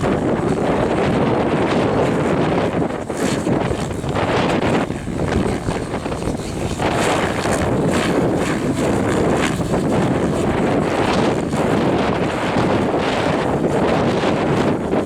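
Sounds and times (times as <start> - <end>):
rc helicopter rotor whooshing: 0.0 - 15.0
wind buffeting microphone: 0.0 - 15.0.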